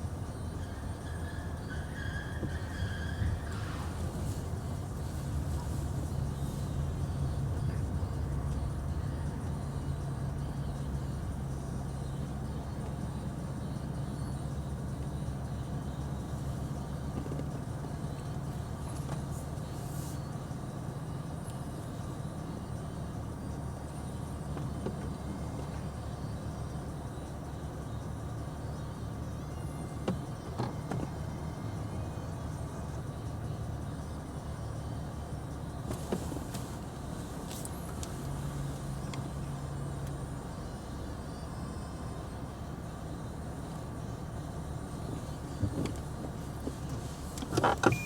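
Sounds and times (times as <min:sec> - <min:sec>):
vehicle rumble with droning hum: 0:00.0 - 0:48.0.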